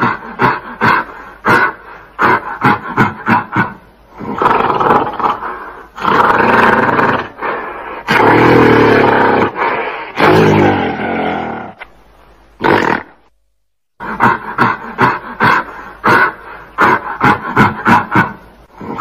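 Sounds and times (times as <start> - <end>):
gorilla roaring: 0.0 - 11.9, 12.6 - 13.2, 14.0 - 19.0.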